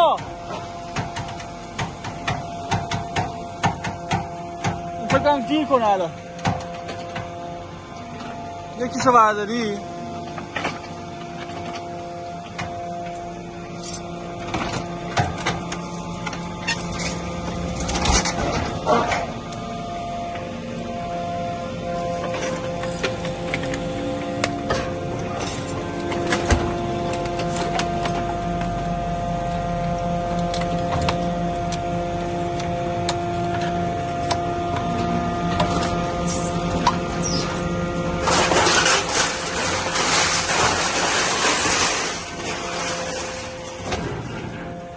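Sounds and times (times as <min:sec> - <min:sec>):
baler machine hum: 0:00.0 - 0:44.9.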